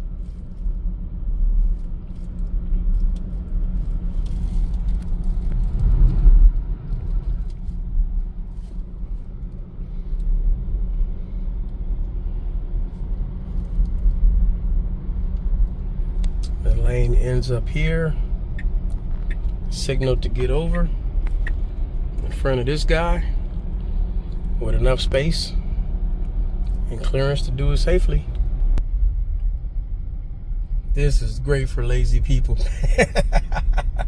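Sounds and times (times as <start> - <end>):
road and tyre rumble: 0.0 - 34.0.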